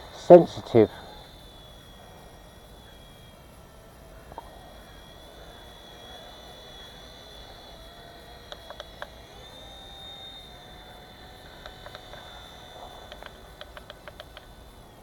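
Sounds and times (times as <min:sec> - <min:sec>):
sharp clicks: 0:00.0 - 0:15.0
toy helicopter rotor whine: 0:00.0 - 0:15.0.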